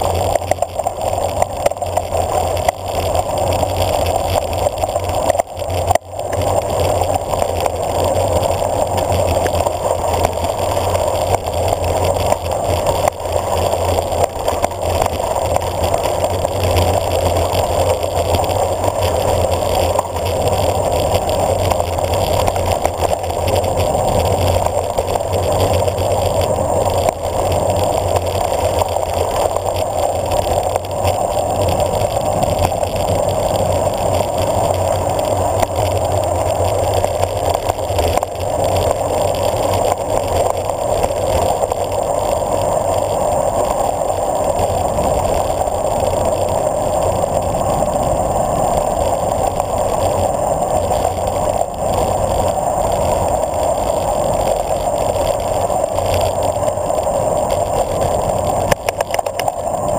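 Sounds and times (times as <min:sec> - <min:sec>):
bicycle tyre noise on pavement: 0:00.0 - 0:59.9.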